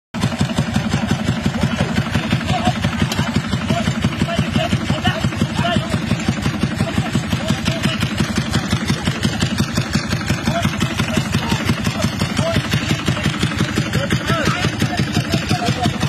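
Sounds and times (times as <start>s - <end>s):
vehicle engine idling: 0.2s - 16.0s.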